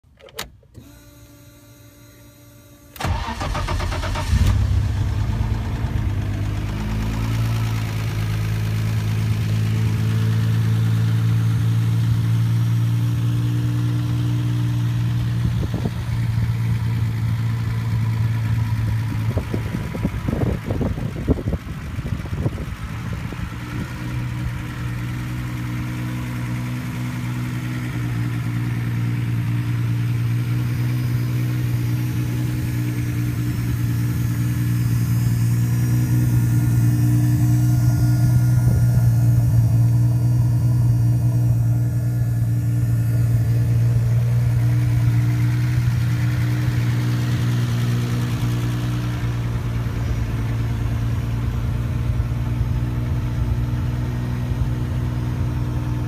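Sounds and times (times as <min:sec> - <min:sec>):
car engine cranking and idling: 0:00.0 - 0:56.0.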